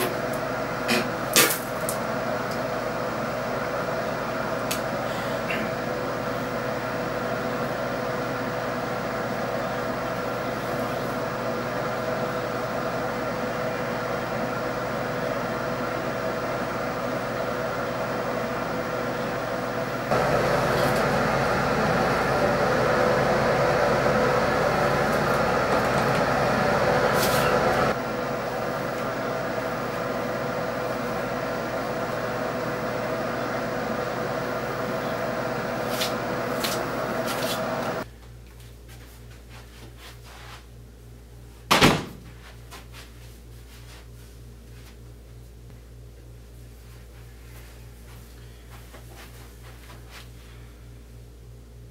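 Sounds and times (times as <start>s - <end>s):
droning hum with held tones: 0.0s - 41.7s, 42.3s - 51.9s.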